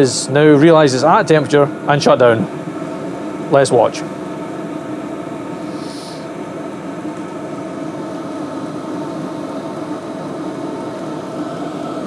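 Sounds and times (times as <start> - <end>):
heater fan and burner hum: 0.0 - 12.0.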